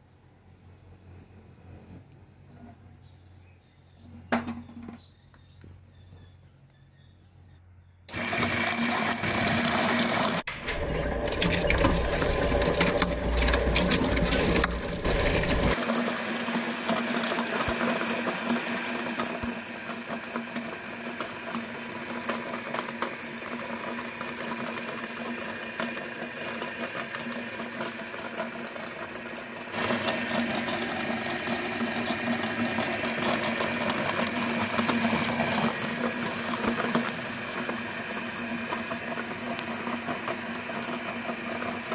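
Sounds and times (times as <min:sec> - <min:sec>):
meat grinder grinding rubber balls: 0:08.1 - 0:41.9.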